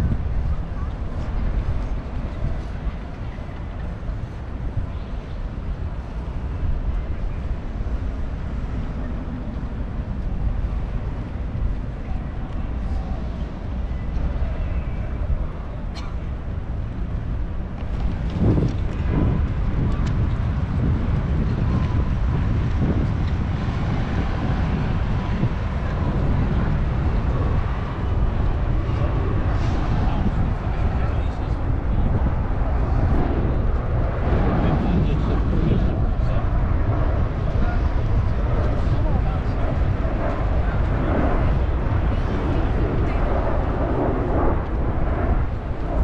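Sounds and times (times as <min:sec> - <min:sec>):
faint voices: 0:00.0 - 0:46.0
traffic rumble: 0:00.0 - 0:46.0
wind buffeting microphone: 0:00.0 - 0:46.0.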